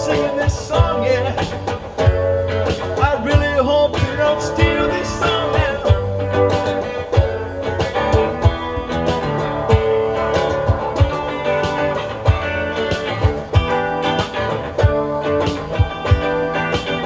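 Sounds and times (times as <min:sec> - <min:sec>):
bass line: 0:00.0 - 0:17.0
guitar playing: 0:00.0 - 0:17.0.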